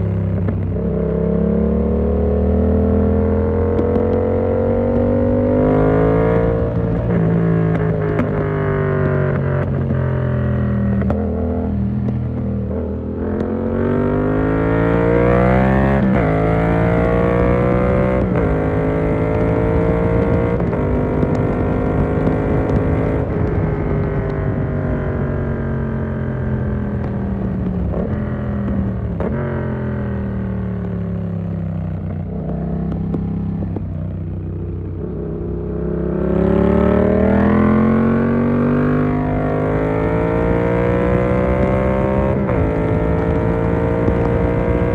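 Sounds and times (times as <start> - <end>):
motorcycle engine revving through gears: 0.0 - 44.9.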